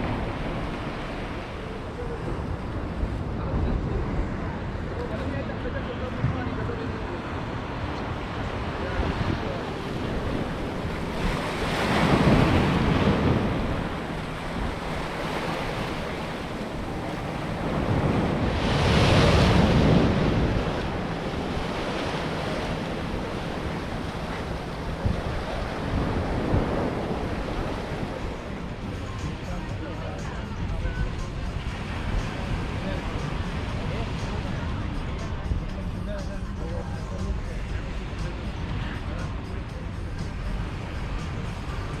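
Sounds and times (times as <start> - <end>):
sea waves washing onto shore: 0.0 - 36.5
wind on microphone: 0.0 - 42.0.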